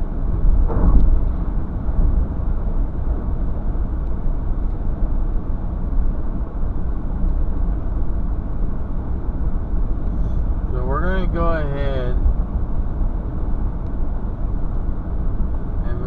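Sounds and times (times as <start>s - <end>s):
vehicle low rumble: 0.0s - 16.0s.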